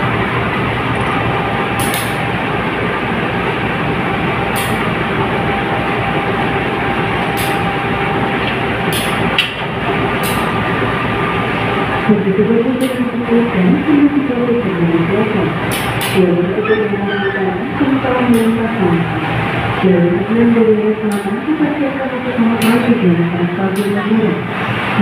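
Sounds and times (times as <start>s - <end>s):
diesel locomotive engine running: 0.0s - 25.0s.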